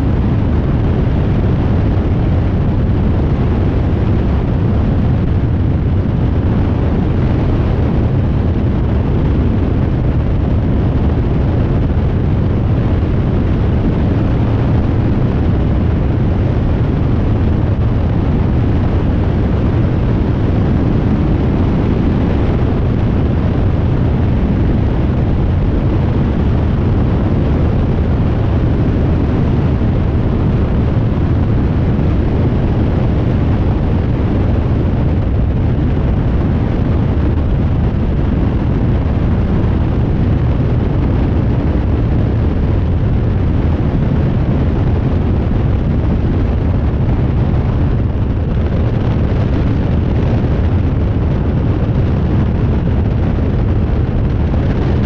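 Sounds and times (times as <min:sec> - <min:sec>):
ultralight aircraft engine roar: 0:00.0 - 0:55.0.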